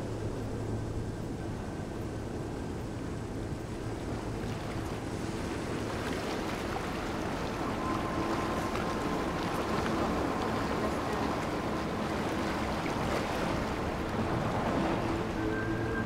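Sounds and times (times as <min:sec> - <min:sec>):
water: 0:00.0 - 0:16.0
wind: 0:00.0 - 0:16.0.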